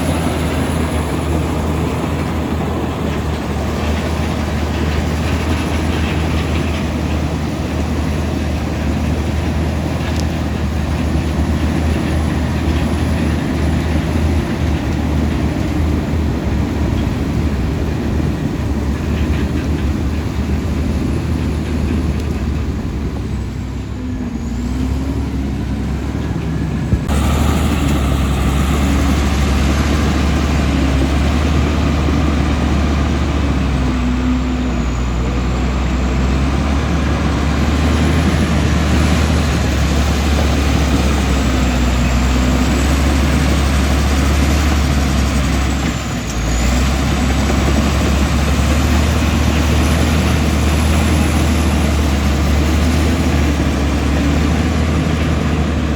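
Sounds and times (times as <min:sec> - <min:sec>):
bulldozer diesel engine droning: 0:00.0 - 0:55.9.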